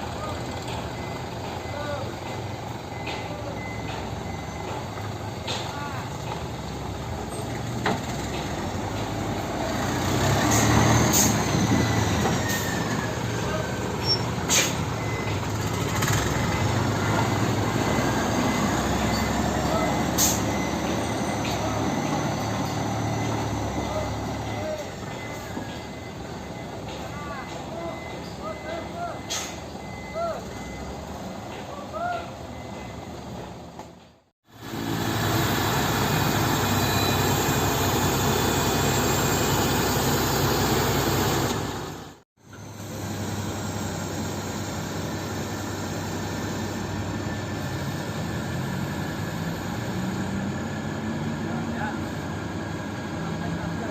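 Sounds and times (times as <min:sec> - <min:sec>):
diesel truck engine running: 0:00.0 - 0:53.9.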